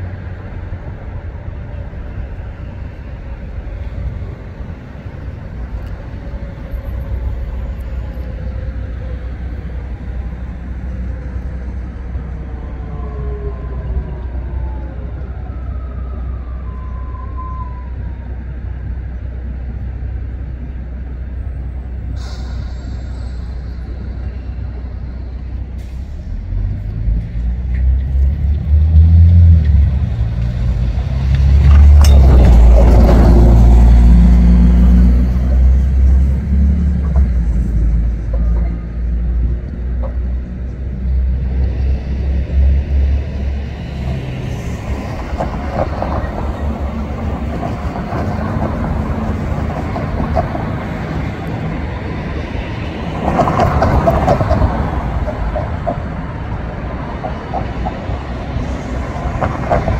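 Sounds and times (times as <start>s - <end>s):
street rumble: 0.0s - 59.9s
tram motor drone: 0.0s - 59.9s.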